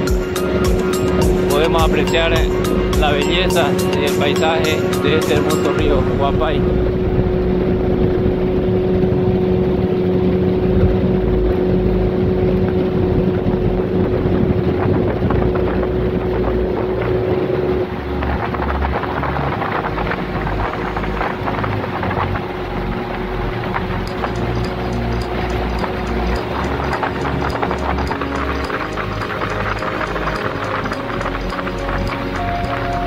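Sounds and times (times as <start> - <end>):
motorboat engine humming: 0.0 - 33.0
wind buffeting microphone: 0.0 - 33.0.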